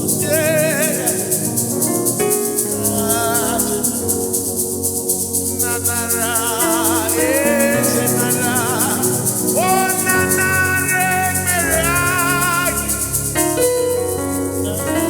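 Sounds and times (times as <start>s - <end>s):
shaker rhythm: 0.0s - 15.0s.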